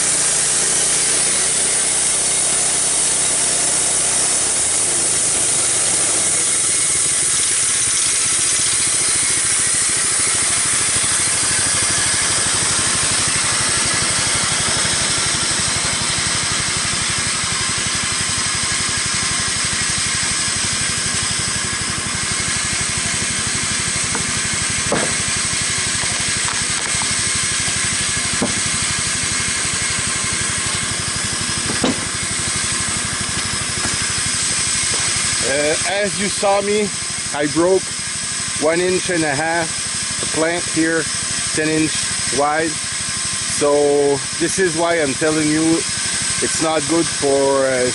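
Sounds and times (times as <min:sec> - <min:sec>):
band saw cutting through log: 0:00.0 - 0:47.9.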